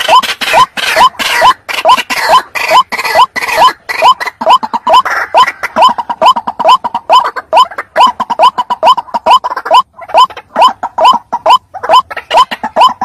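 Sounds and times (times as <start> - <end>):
waterhen calling: 0.0 - 13.0.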